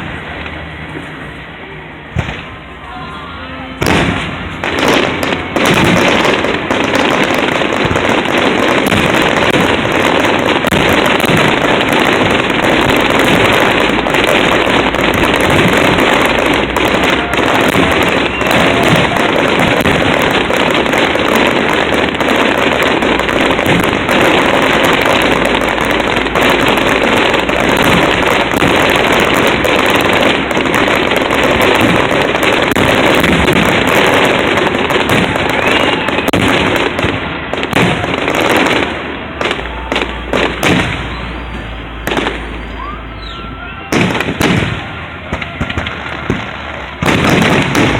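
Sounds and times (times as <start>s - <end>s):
fireworks bangs and crackle: 0.0s - 47.9s.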